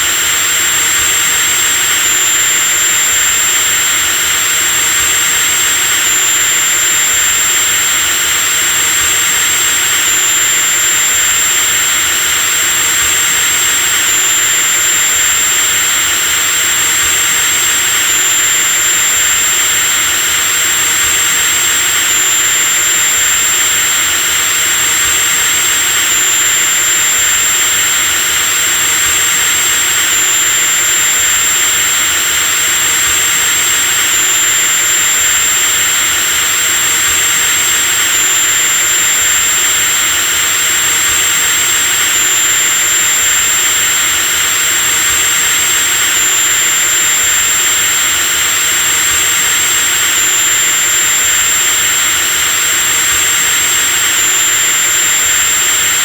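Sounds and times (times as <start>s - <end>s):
electric drill running: 0.0s - 56.0s.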